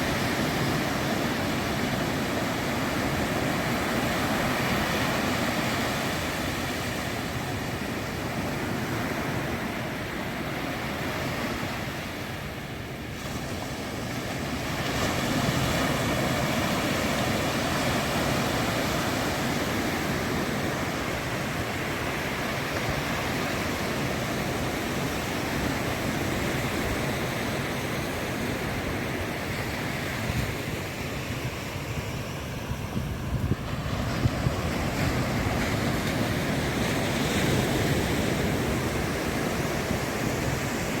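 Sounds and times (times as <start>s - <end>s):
ocean surf on beach: 0.0s - 41.0s.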